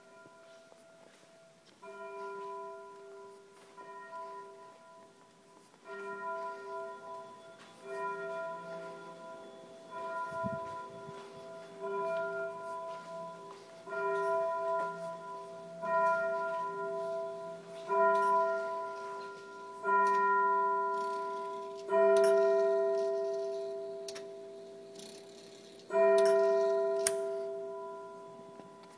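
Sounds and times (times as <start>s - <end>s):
carillon bell ringing: 0.0s - 28.9s.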